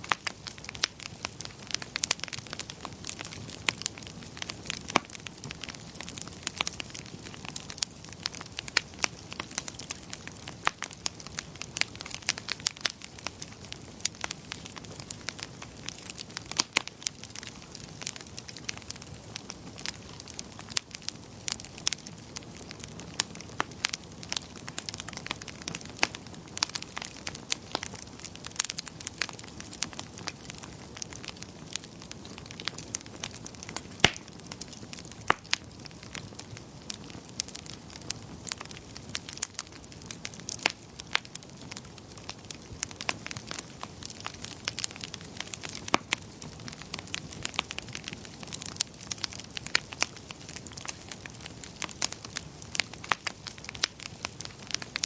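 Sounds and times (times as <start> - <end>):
soft hiss of burning: 0.0 - 55.0
wood fire crackling and popping: 0.0 - 55.0.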